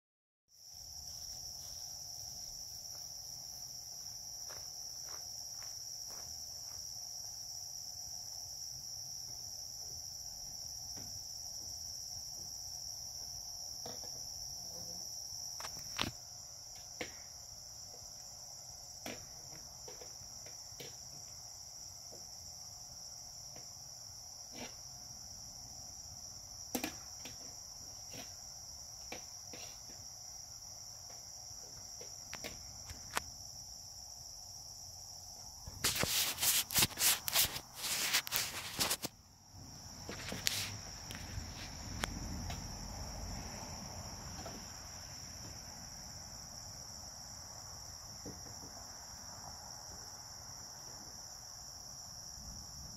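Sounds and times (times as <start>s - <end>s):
crickets trilling: 0.5s - 52.9s.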